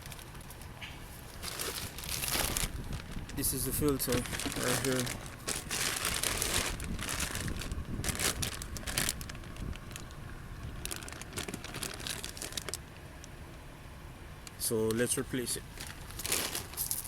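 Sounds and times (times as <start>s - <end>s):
crinkling and rustling handling: 0.0s - 13.4s, 14.4s - 17.0s
low background rumble: 0.0s - 17.0s.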